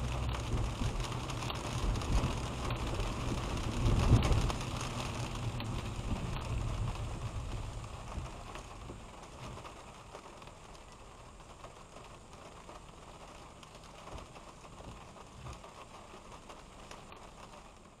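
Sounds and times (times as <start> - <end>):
low road rumble: 0.0 - 18.0
rain pattering on a car: 0.0 - 18.0.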